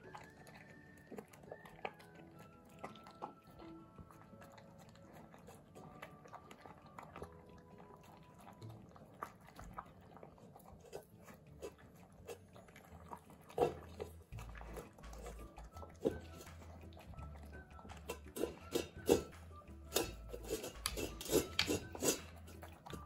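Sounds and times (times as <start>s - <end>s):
puppy chewing and crunching: 0.0s - 23.0s
teeth clicking: 0.0s - 23.0s.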